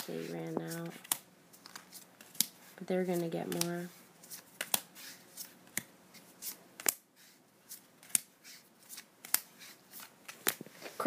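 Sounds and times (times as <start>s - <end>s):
cards flipping with clicks: 0.0s - 2.6s, 3.5s - 7.0s, 7.7s - 11.0s.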